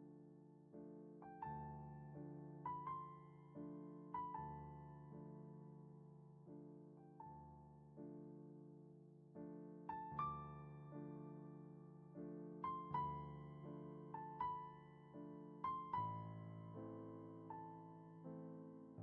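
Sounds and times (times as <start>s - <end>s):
soft solo piano music: 0.0s - 19.0s.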